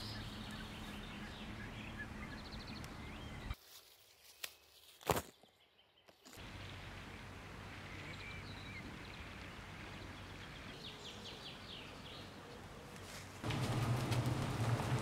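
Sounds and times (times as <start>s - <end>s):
faint birdsong: 0.0s - 3.6s, 4.2s - 15.0s.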